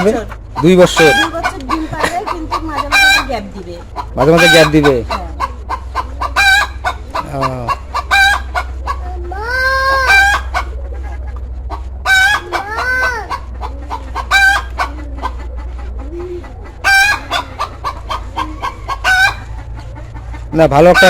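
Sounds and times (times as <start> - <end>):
chickens clucking: 0.0 - 21.0
chicken rising and falling calls: 2.5 - 21.0.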